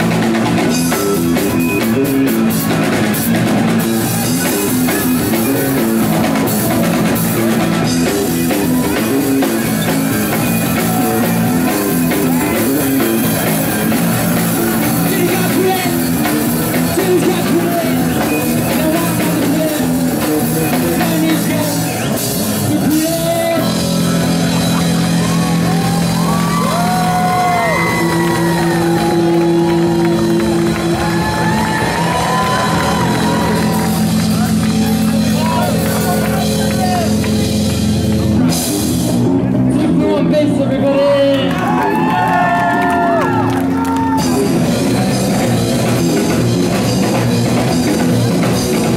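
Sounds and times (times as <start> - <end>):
punk rock band playing: 0.0 - 48.9.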